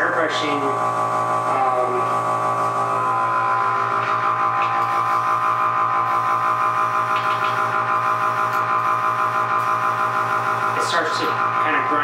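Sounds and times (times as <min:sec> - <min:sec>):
air compressor motor humming: 0:00.0 - 0:12.0.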